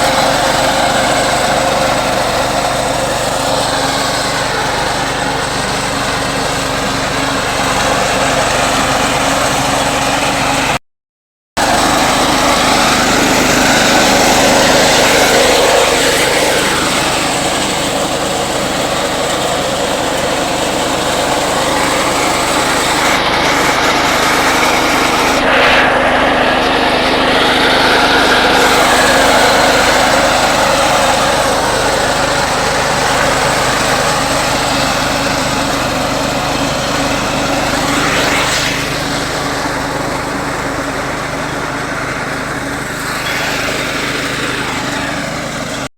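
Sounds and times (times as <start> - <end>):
small engine running loudly: 0.0 - 10.8, 11.6 - 45.9.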